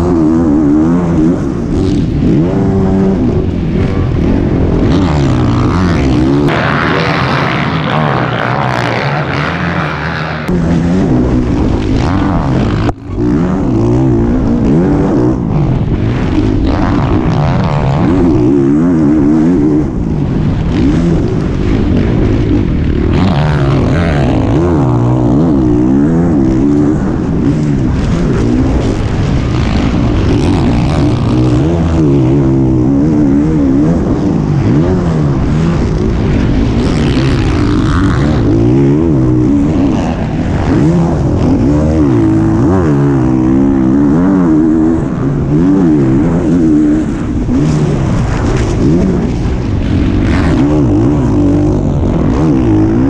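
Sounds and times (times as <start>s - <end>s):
motocross bike engine racing: 0.0s - 53.0s.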